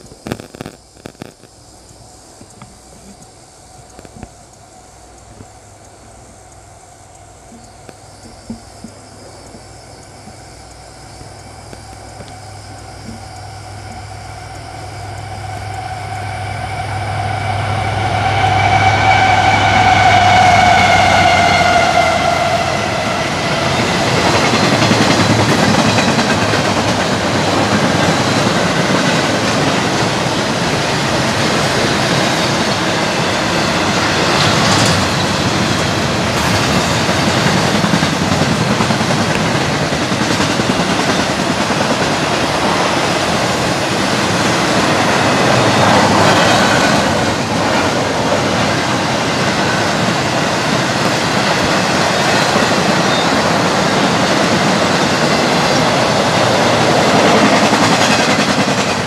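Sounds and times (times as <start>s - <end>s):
wheel and rail noise: 0.0s - 59.0s
diesel locomotives passing: 1.6s - 59.0s.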